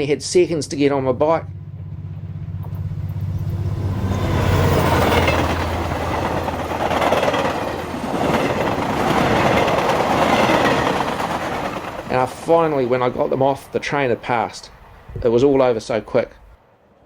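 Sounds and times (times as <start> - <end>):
diesel locomotive engine hum: 0.0 - 16.6
freight wagons rumbling past: 0.0 - 16.6.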